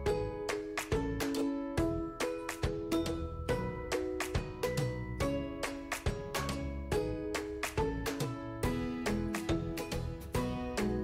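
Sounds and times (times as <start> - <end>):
light plucked music: 0.0 - 11.0.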